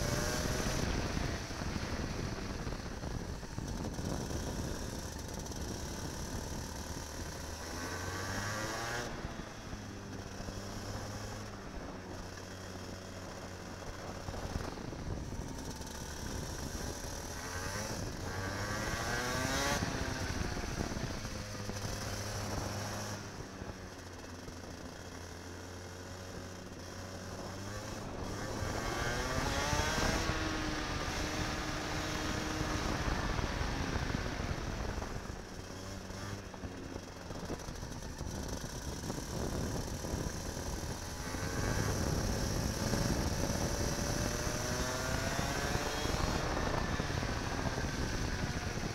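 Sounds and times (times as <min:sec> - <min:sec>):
kart engine revving: 0:00.0 - 0:09.3, 0:13.3 - 0:23.2, 0:25.8 - 0:48.9.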